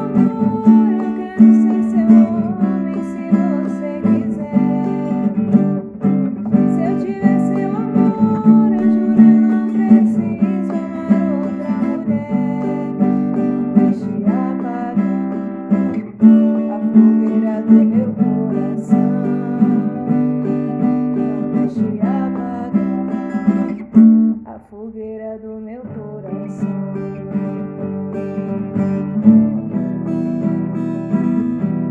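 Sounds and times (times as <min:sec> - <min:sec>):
acoustic guitar strumming chords: 0:00.0 - 0:31.9.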